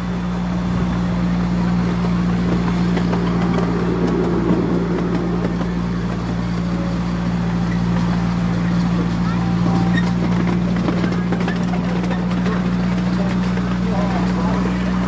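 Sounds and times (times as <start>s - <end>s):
miniature train running: 0.0s - 15.0s.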